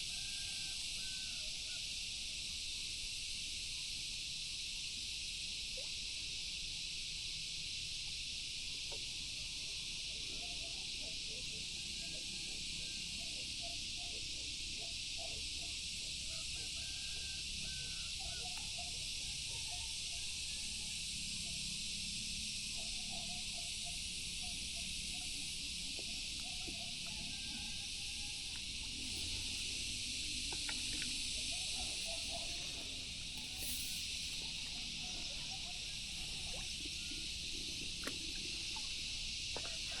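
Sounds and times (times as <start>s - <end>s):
insect chorus drone: 0.0s - 40.0s.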